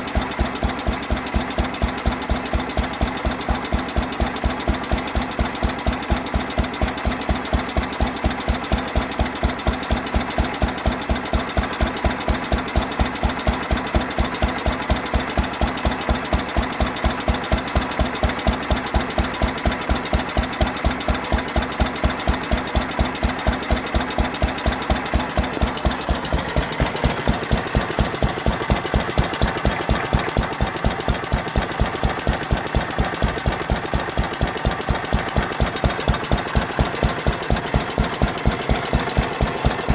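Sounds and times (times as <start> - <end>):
antique gas engine running: 0.0 - 39.9.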